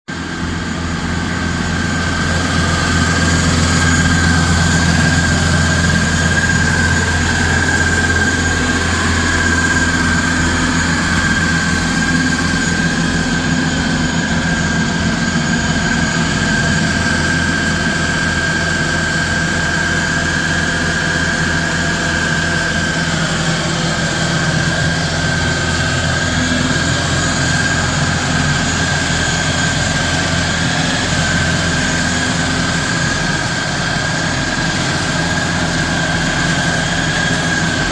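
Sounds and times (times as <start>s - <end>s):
high-pitched whine: 0.1s - 37.9s
stump grinder engine drone: 0.1s - 37.9s.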